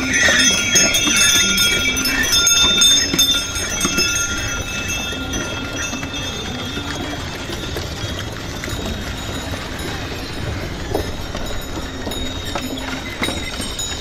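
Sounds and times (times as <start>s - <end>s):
bells jingling: 0.0s - 14.0s
hooves clopping: 0.0s - 14.0s
wooden cart wheels rattling: 0.0s - 14.0s.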